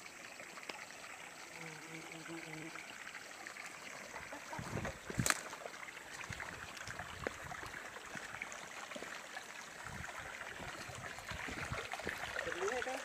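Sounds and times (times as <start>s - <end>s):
stream babbling over rocks: 0.0s - 13.0s.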